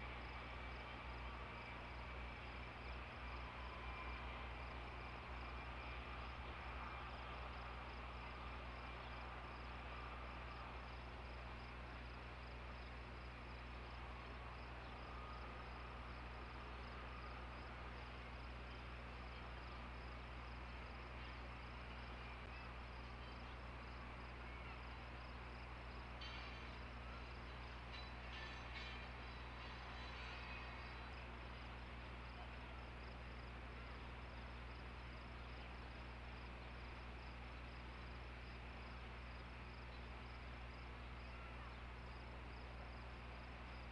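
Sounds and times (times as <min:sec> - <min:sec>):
low electrical hum: 0:00.0 - 0:43.9.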